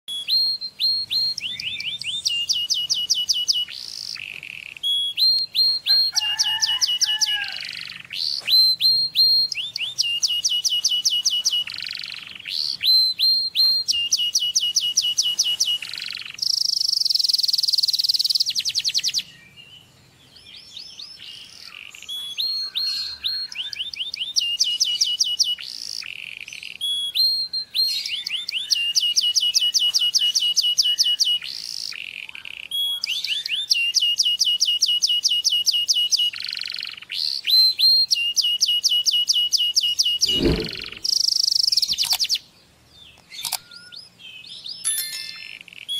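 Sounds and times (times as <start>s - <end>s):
canary singing trills: 0.1s - 42.5s.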